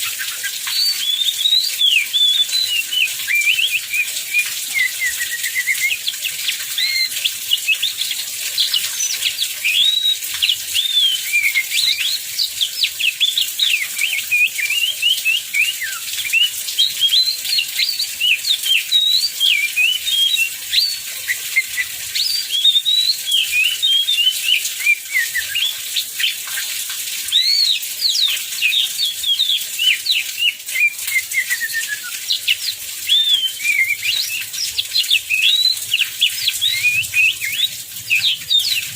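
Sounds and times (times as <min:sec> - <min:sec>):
bird singing whistled notes: 0:00.0 - 0:26.6, 0:27.3 - 0:38.9
heavy rain hiss: 0:00.0 - 0:38.9.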